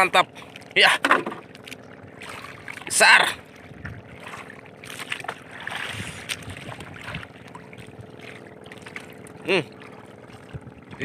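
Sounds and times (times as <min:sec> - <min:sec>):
water lapping against canoe: 0:00.0 - 0:11.0.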